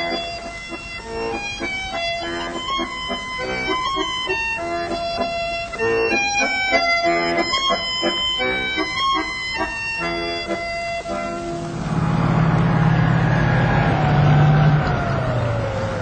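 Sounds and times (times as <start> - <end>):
accordion playing a tune: 0.0 - 15.6.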